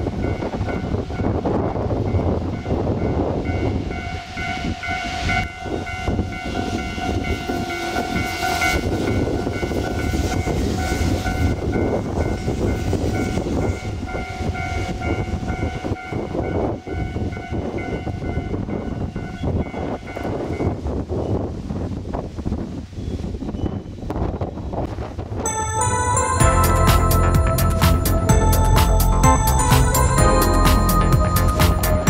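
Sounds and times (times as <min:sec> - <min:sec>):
level-crossing warning bell ringing: 0:00.0 - 0:20.8, 0:25.4 - 0:32.0
train rumbling past: 0:00.0 - 0:21.2, 0:24.9 - 0:32.0.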